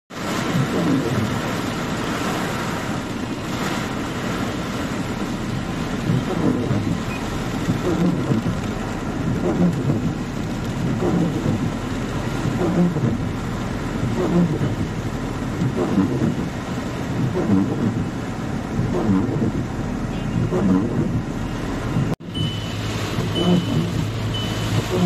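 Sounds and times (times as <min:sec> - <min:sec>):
heavy rain pouring: 0:00.1 - 0:25.0.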